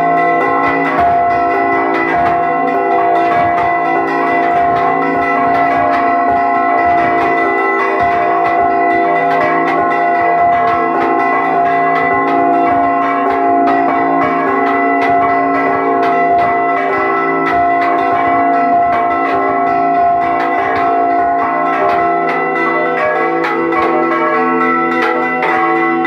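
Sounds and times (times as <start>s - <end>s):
church bells pealing: 0.0s - 26.0s.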